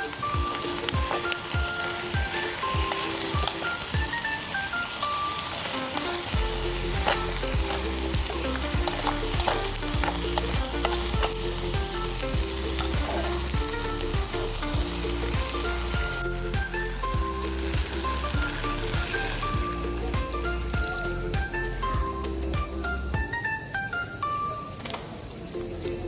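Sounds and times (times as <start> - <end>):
food sizzling in a pan: 0.0 - 24.7
background music with steady beat: 0.0 - 26.0.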